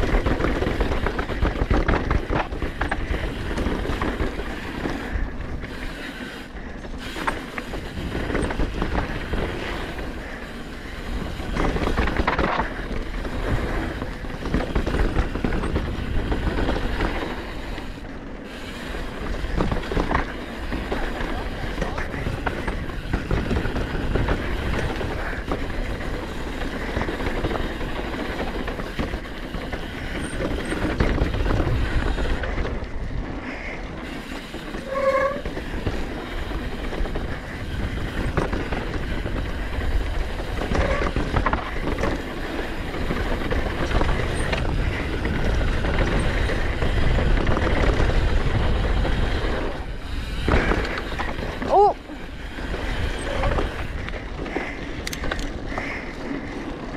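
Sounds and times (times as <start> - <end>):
wind rumble on microphone: 0.0 - 18.1, 18.7 - 56.9
bike chain and frame rattling: 0.0 - 56.9
tyres rolling over dirt and rock: 0.0 - 56.9.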